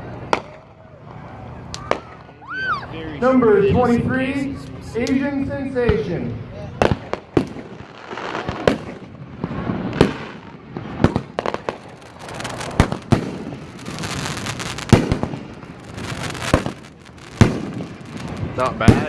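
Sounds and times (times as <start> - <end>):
firework bangs: 0.0 - 2.8, 3.6 - 19.0
firework crackling: 0.0 - 6.1, 6.7 - 19.0.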